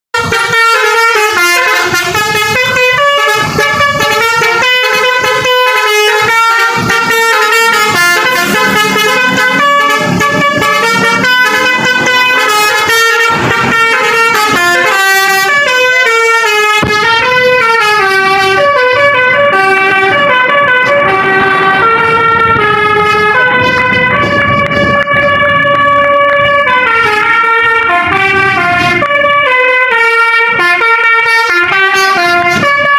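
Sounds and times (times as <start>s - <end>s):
bus musical horns: 0.1s - 32.9s.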